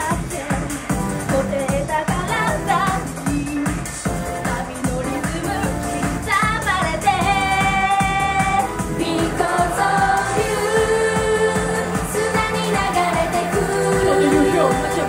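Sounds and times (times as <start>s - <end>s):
pop backing track with steady beat: 0.0s - 15.0s
woman singing into a microphone: 0.0s - 15.0s.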